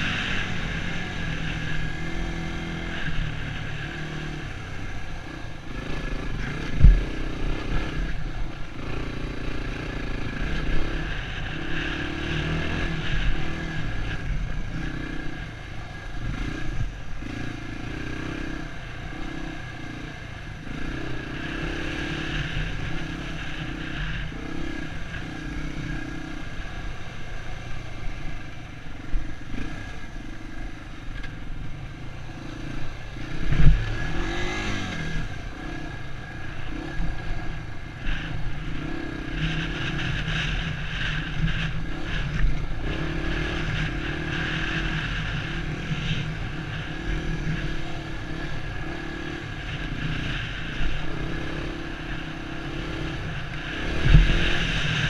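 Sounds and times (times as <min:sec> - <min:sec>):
dirt bike engine revving: 0:00.0 - 0:26.9, 0:28.1 - 0:55.0.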